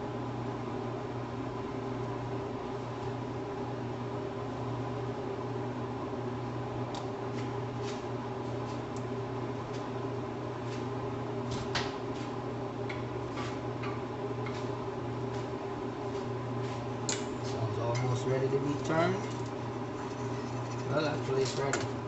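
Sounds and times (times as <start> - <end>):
appliance motor hum: 0.0 - 22.0.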